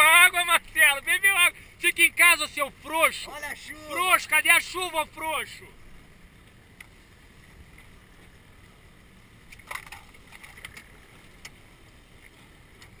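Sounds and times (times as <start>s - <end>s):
outboard motor rumbling: 0.0s - 13.0s
water splashes: 0.0s - 13.0s.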